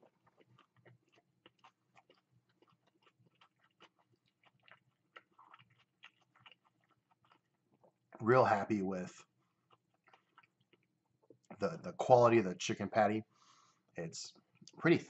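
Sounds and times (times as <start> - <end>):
faint chewing crackles: 0.0 - 12.7, 13.3 - 15.0.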